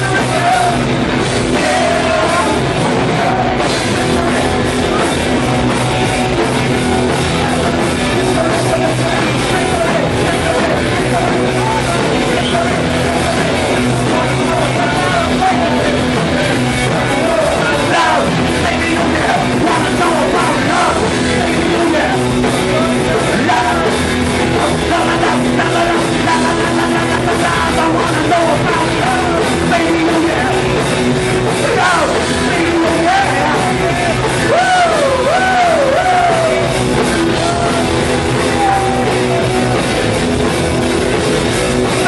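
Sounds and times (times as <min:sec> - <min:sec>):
person singing: 0:00.0 - 0:05.6, 0:06.4 - 0:30.8, 0:31.4 - 0:39.9
live punk rock band: 0:00.0 - 0:42.0.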